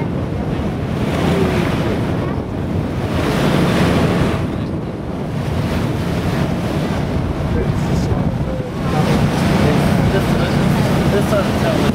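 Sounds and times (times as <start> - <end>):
water rushing beside boat: 0.0 - 11.9
wind buffeting microphone: 0.0 - 11.9.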